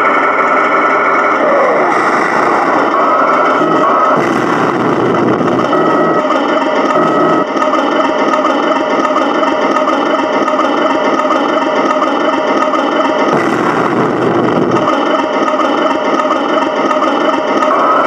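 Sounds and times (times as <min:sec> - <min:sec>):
tank engine idling through speaker: 0:00.0 - 0:18.0.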